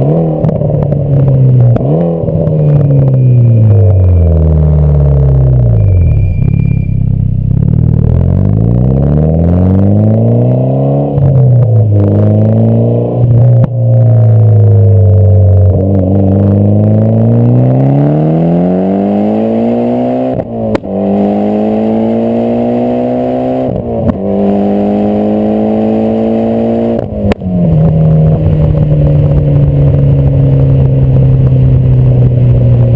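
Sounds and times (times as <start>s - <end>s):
car engine accelerating through gears: 0.0s - 32.9s.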